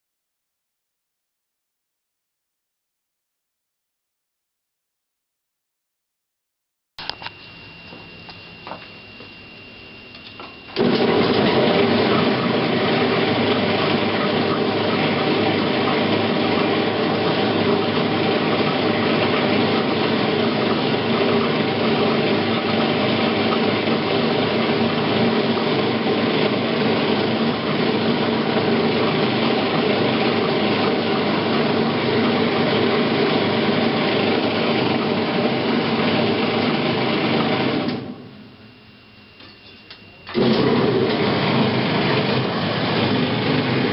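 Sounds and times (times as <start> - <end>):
washing machine running: 7.0 - 38.7, 39.4 - 43.9.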